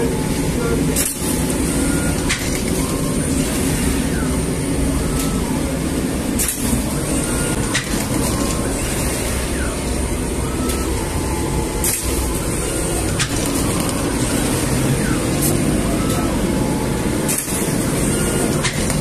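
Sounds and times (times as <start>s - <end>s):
oven mechanical drone with hiss: 0.0s - 19.0s.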